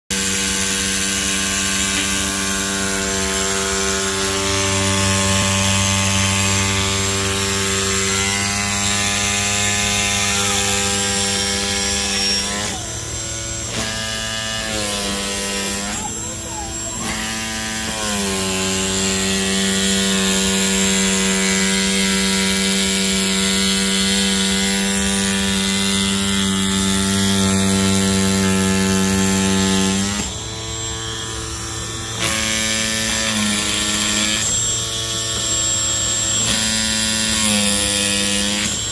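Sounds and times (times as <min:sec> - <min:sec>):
stepper motor whine: 0:00.1 - 0:38.9.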